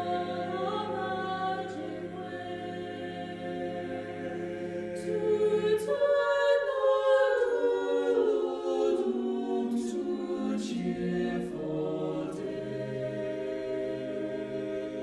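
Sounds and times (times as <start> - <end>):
mixed choir singing a cappella: 0.0 - 15.0.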